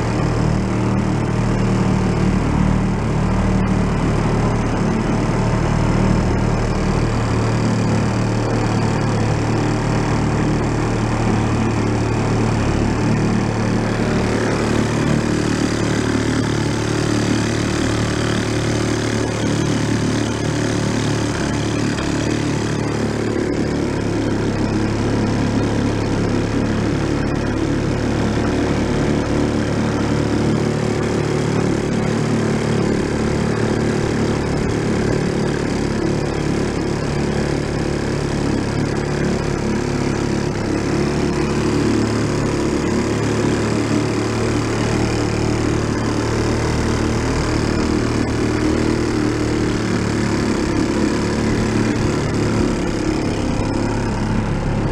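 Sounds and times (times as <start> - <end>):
outboard motor running: 0.0 - 54.9
propeller wake wash: 0.0 - 54.9.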